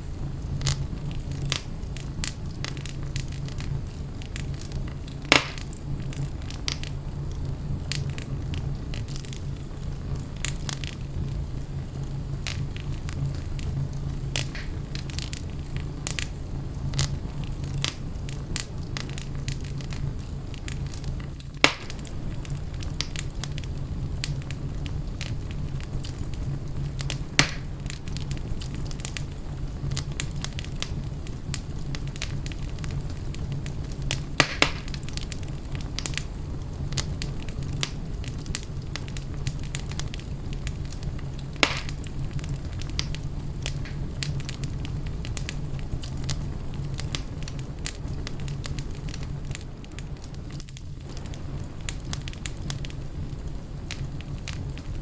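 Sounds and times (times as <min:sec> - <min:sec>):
wood fire crackling: 0:00.0 - 0:55.0
sharp fire pops: 0:00.2 - 0:55.0.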